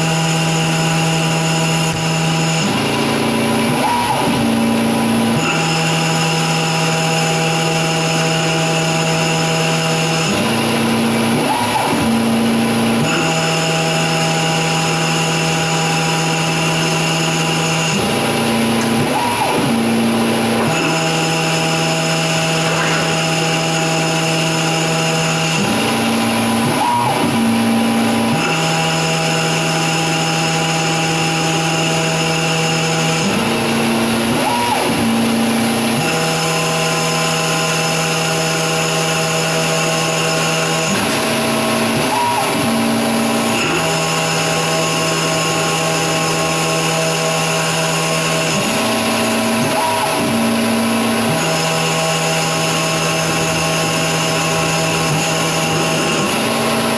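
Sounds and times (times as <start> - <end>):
lathe machine whine: 0.0 - 56.9.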